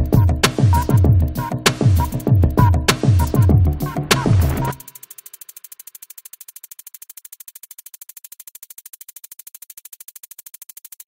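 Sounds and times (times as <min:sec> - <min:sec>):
fast electronic pulsing: 0:00.1 - 0:11.0.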